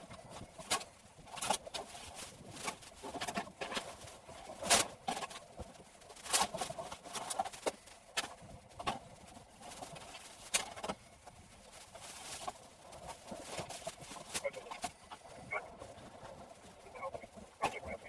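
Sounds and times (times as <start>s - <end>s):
nylon bags rustling: 0.0s - 18.0s.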